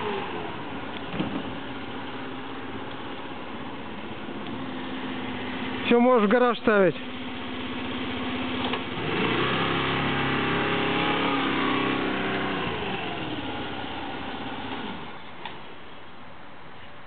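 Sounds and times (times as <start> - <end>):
scooter engine pulling away: 0.0 - 5.9, 7.0 - 15.7.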